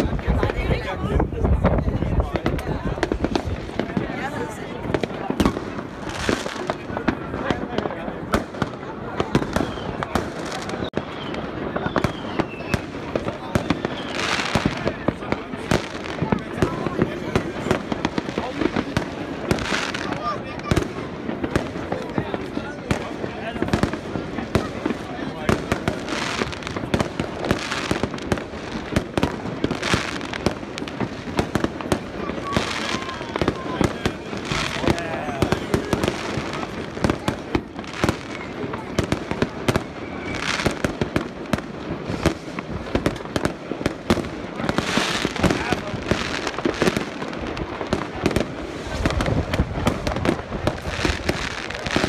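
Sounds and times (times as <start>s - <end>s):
firework bangs: 0.0s - 52.0s.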